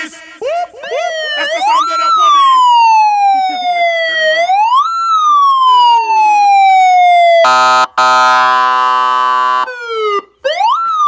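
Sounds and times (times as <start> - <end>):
electronic police siren: 0.8 - 11.0.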